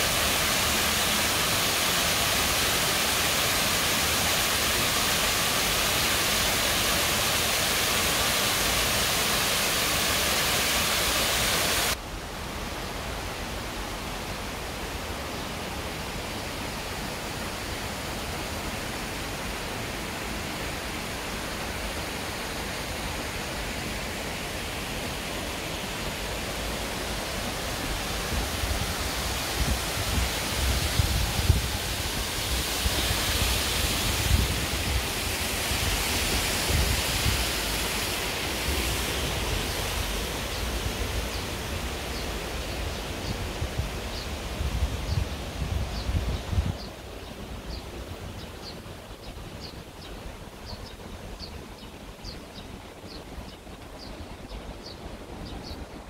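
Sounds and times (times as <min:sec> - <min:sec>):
rushing stream water: 0:00.0 - 0:56.0.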